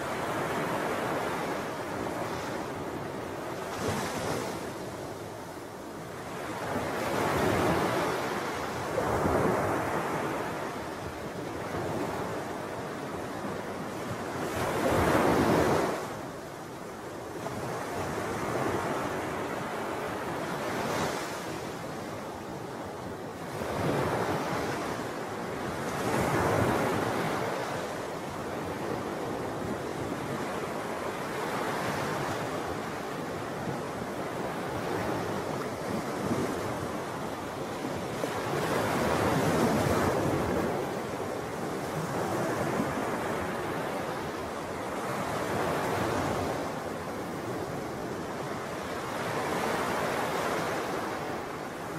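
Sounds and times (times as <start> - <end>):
wind: 0.0 - 51.9.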